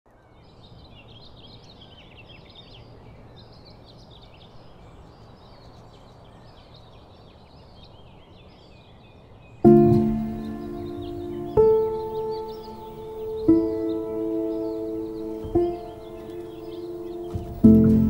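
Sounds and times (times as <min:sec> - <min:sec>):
songbirds chirping and singing: 0:00.1 - 0:18.0.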